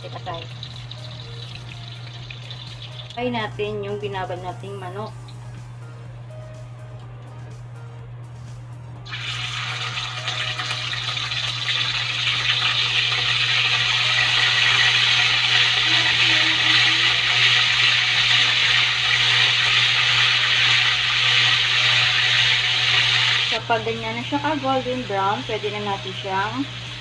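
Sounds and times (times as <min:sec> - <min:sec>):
chicken sizzling in hot oil: 0:00.0 - 0:04.2, 0:09.0 - 0:27.0.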